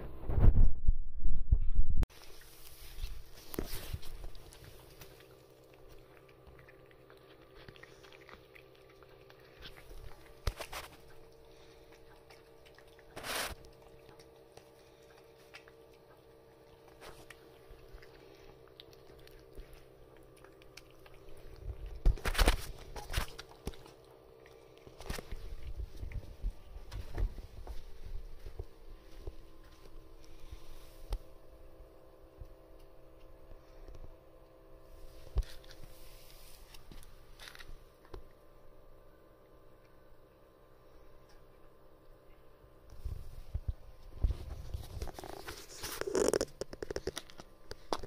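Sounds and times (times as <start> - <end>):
low hum: 0.0 - 48.0
cats chewing wet food: 2.1 - 48.0.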